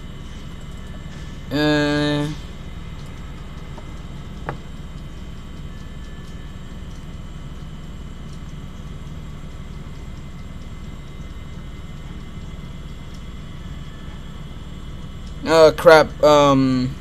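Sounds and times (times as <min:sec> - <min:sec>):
hard drive humming: 0:00.0 - 0:17.0.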